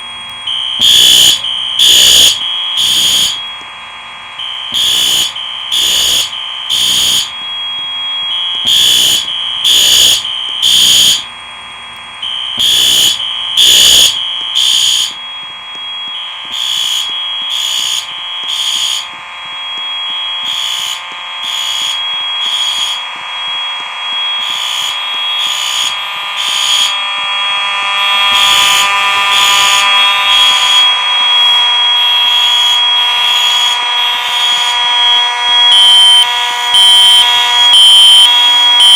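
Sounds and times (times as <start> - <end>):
continuous steady horn tone: 0.0 - 38.9
fire alarm horns pulsing: 0.0 - 38.9.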